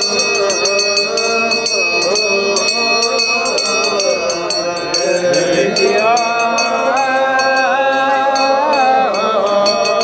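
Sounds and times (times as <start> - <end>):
voices singing a hymn: 0.0 - 10.0.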